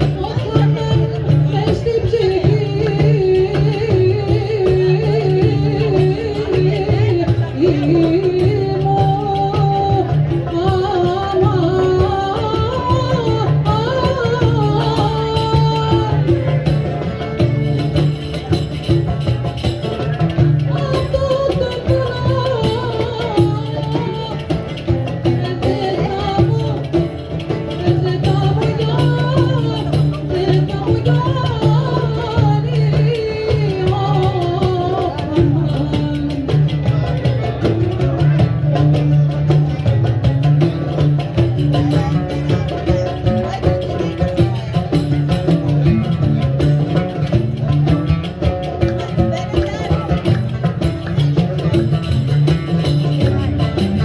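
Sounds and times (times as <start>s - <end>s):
light percussion: 0.0s - 54.0s
ornamented folk melody: 0.0s - 54.0s.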